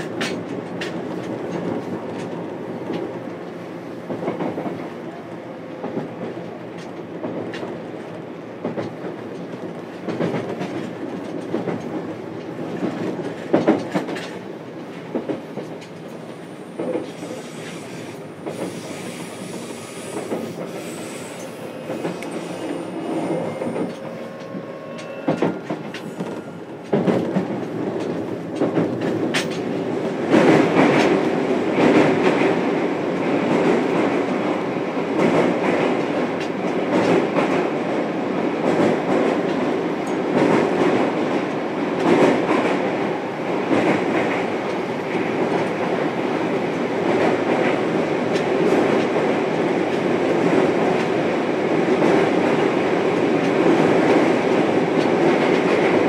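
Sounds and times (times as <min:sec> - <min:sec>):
rail-joint clicks: 0:00.0 - 0:56.0
train wheels rolling on rails: 0:00.0 - 0:56.0.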